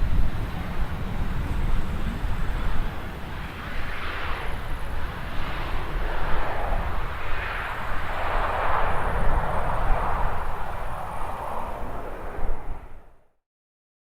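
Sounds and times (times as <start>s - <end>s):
jet engines rushing: 0.0s - 13.2s
wind buffeting microphone: 0.0s - 13.2s.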